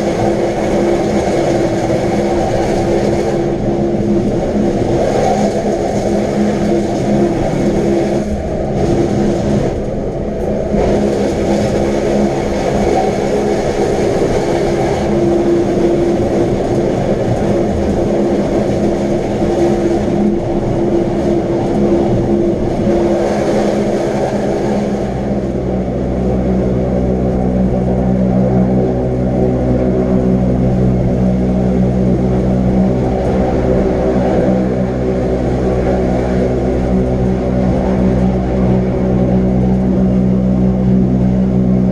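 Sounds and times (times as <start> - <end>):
electric train motor hum: 0.0 - 41.9
train running rumble: 0.0 - 41.9.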